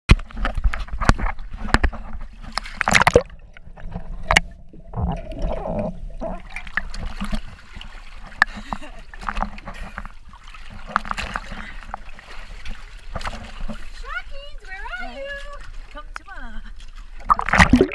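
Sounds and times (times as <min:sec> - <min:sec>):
water splashing against camera: 0:00.1 - 0:17.9.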